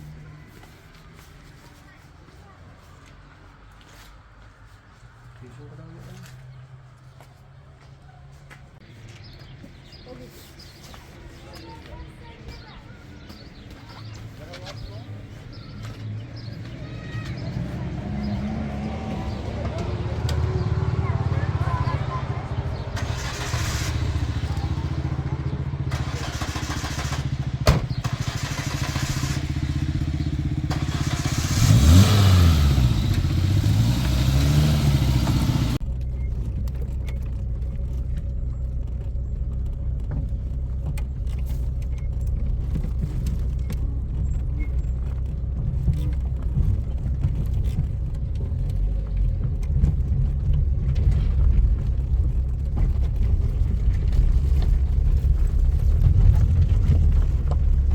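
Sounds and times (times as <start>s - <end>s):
vehicle engine running: 9.0s - 57.9s.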